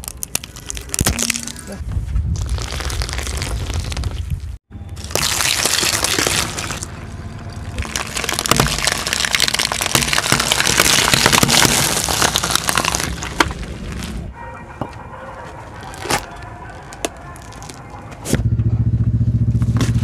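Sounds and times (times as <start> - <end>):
eggs crunching under car tyre: 0.0 - 14.3, 15.8 - 18.2.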